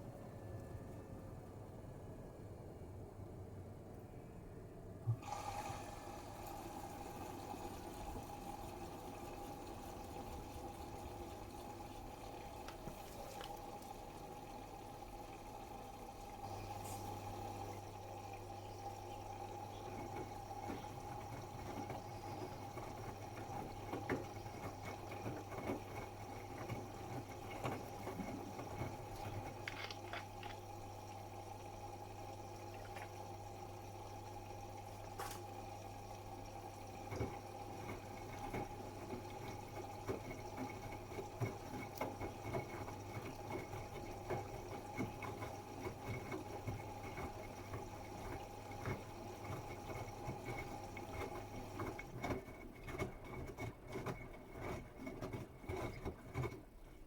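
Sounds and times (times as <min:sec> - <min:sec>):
water running into machine: 0:05.1 - 0:57.0
drips and small splashes: 0:06.2 - 0:57.0.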